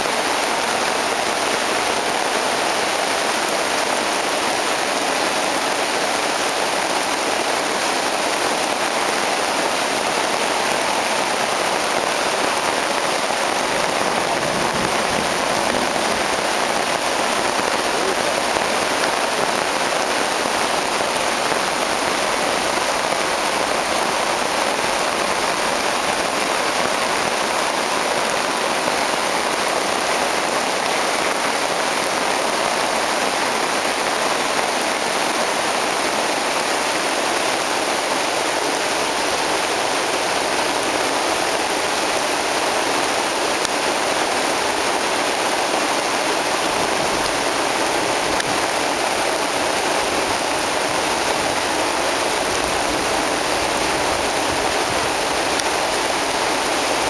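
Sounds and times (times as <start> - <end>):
rain on leaves and a tarp: 0.0 - 57.0.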